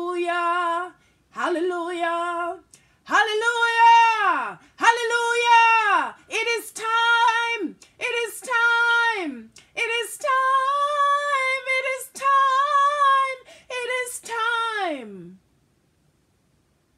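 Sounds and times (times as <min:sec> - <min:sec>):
woman singing solo: 0:00.0 - 0:15.4.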